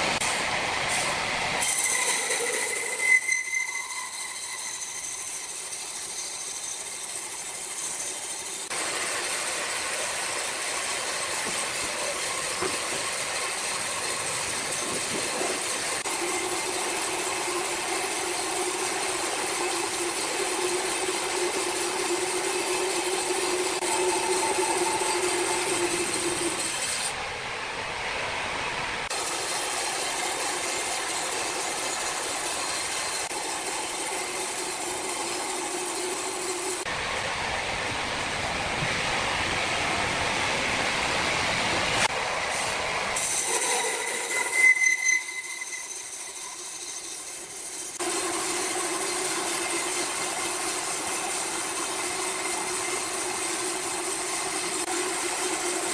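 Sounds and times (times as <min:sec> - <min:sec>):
sawmill machinery hissing: 0:00.0 - 0:55.9.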